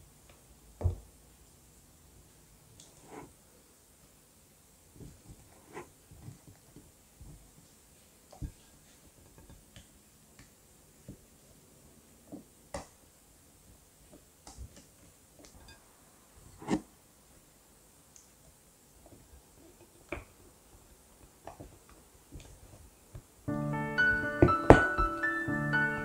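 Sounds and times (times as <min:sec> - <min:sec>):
faint squishing of cream: 0:00.0 - 0:23.4.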